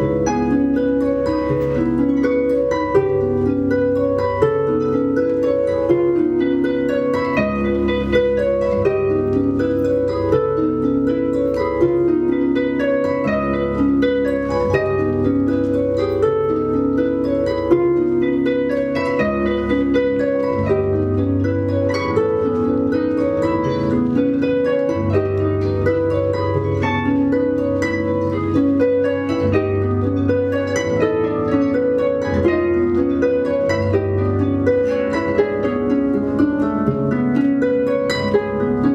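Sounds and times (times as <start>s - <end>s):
harps playing: 0.0s - 38.9s.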